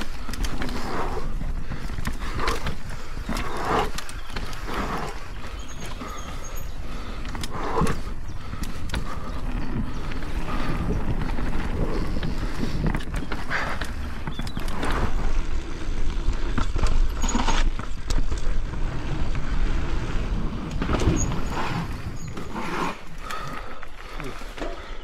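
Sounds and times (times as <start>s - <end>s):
wind rumbling on microphone: 0.0s - 24.1s
tyres on dirt and roots: 0.0s - 25.0s.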